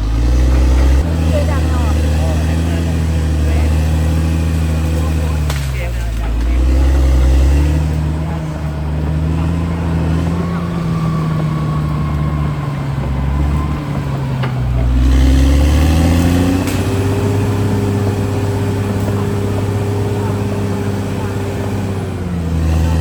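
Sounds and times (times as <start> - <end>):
bulldozer diesel engine under load: 0.0 - 23.0.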